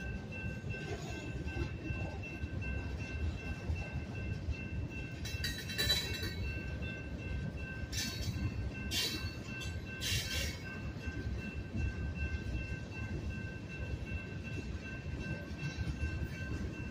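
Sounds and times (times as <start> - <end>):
crossing bell ringing: 0.0 - 16.9.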